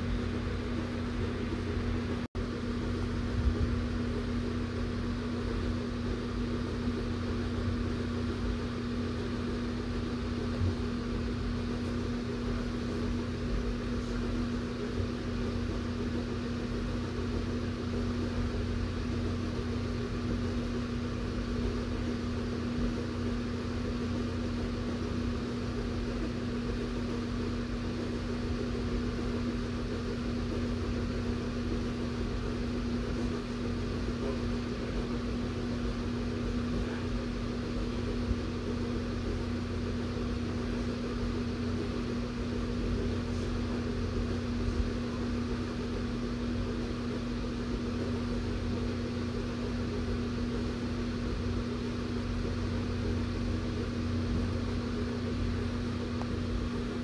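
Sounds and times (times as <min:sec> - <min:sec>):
room fan humming: 0:00.0 - 0:57.0.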